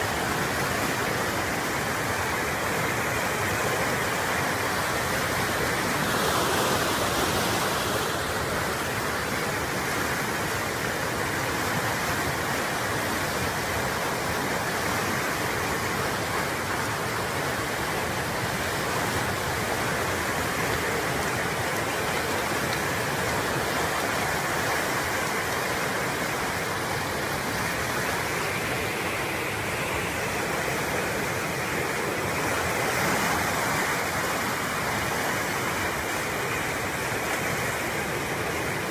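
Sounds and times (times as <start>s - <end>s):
rushing floodwater: 0.0s - 38.9s.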